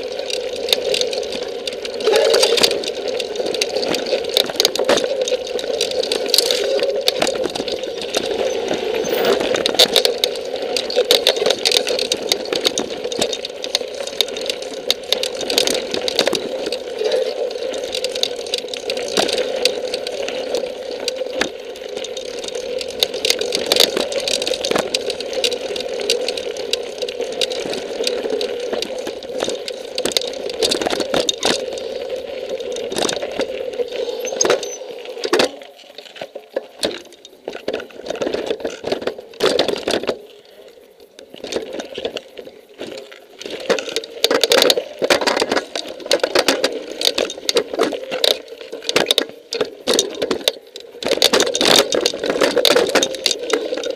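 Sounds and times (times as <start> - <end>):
bike rattling and clattering: 0.0 - 53.9.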